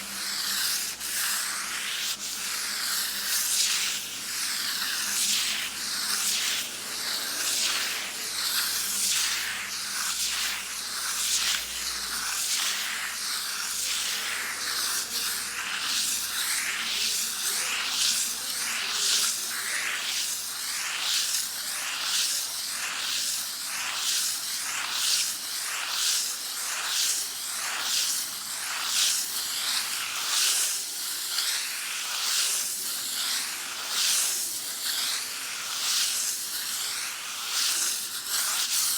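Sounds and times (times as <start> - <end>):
sandpaper rasping on a wall: 0.0 - 38.9.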